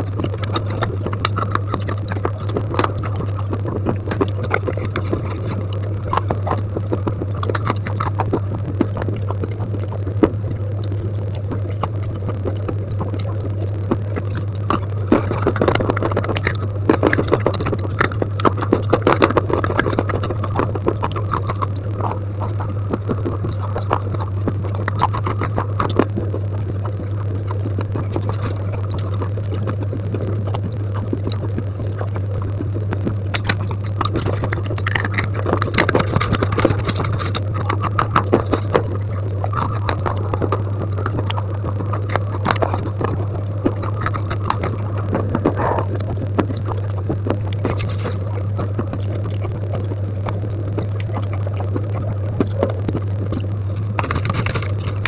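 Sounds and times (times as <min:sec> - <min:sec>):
fingers squelching wet mash: 0:00.0 - 0:55.0
steady low hum: 0:00.0 - 0:55.0.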